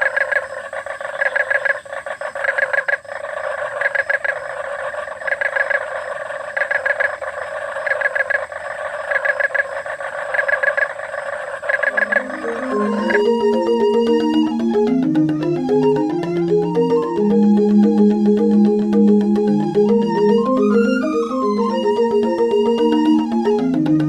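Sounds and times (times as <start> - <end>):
chorus of frogs calling: 0.0 - 23.6
rattling frog call: 0.0 - 24.0.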